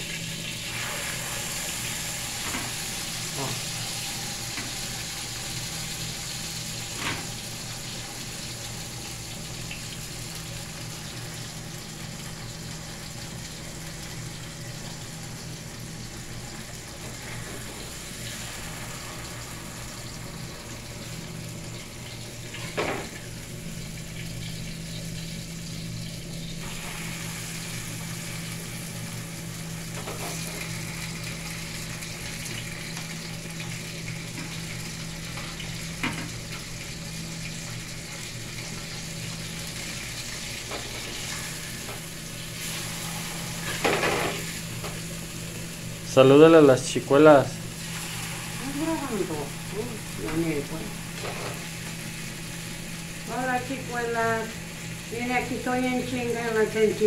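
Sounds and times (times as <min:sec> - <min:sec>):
tortillas sizzling in oil: 0:00.0 - 0:57.0.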